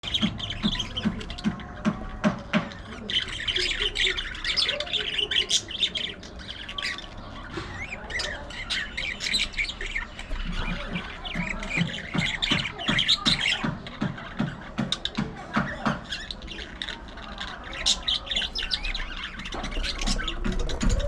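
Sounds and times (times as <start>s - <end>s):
budgerigars chattering: 0.0s - 21.0s.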